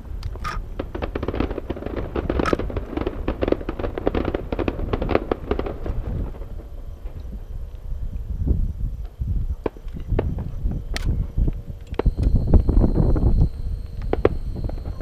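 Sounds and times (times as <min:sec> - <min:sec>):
fireworks crackling bangs: 0:00.0 - 0:07.8, 0:09.0 - 0:15.0.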